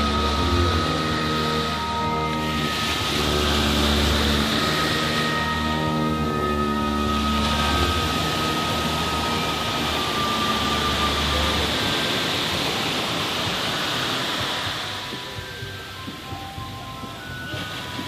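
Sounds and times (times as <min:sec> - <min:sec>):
low held musical tone: 0:00.0 - 0:18.0
ocean surf rushing: 0:00.0 - 0:18.0.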